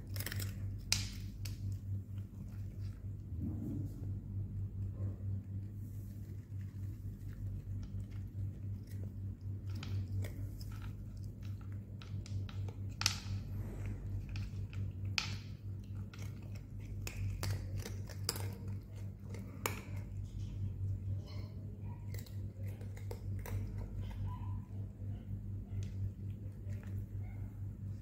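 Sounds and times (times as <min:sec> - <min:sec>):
cat crunching dry kibble: 0:00.0 - 0:03.4, 0:04.4 - 0:28.0
steady low hum: 0:00.0 - 0:28.0.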